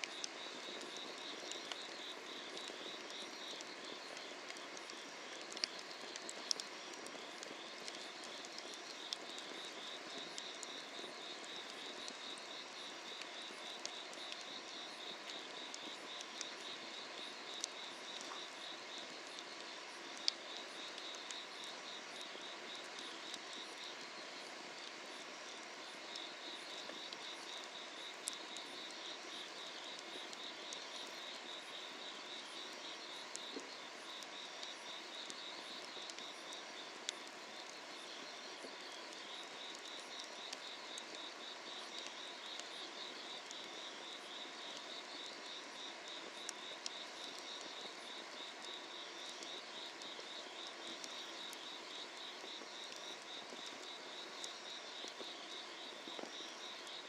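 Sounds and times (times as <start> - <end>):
insects trilling: 0.0 - 57.0
wood fire popping: 0.0 - 57.0.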